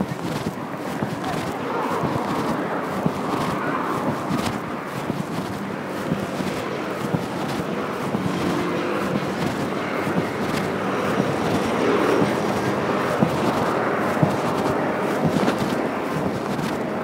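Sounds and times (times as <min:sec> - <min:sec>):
road traffic: 0:00.0 - 0:17.0
vehicle passing: 0:00.4 - 0:17.0.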